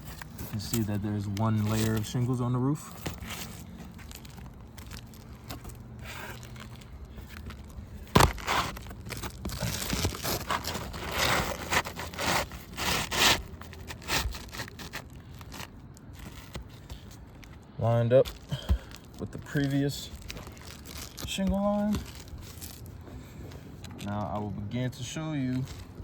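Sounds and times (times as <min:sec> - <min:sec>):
roof shingles scraping and rustling: 0:00.0 - 0:23.0.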